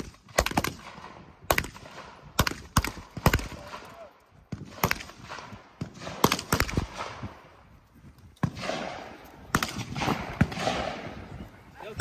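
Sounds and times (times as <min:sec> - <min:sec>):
gunshots: 0:00.0 - 0:07.5, 0:08.4 - 0:11.4.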